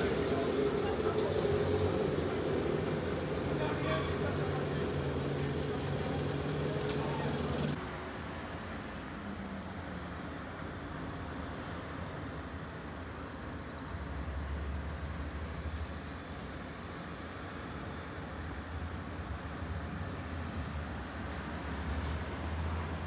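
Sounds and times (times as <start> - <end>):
road noise hum: 0.0 - 23.0
vehicle engines rumbling: 0.0 - 23.0.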